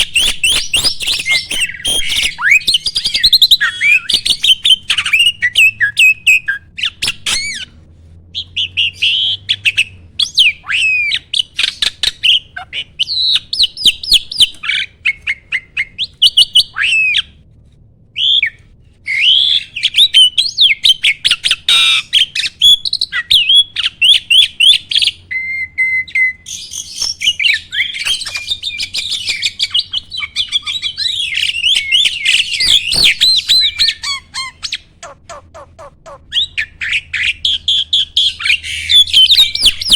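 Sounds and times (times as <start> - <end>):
starling singing: 0.0 - 7.8, 8.4 - 17.4, 18.2 - 39.9.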